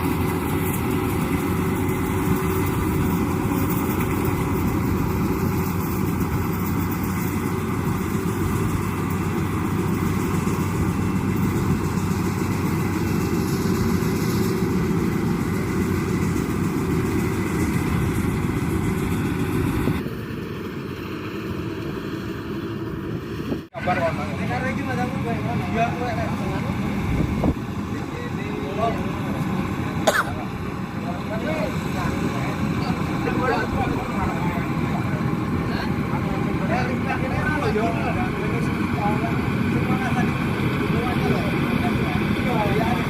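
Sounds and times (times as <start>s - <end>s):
combine harvester diesel engine: 0.0s - 43.0s.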